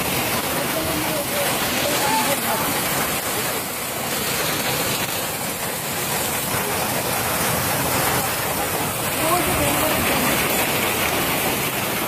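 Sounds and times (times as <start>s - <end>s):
hail and heavy rain pelting: 0.0s - 12.0s.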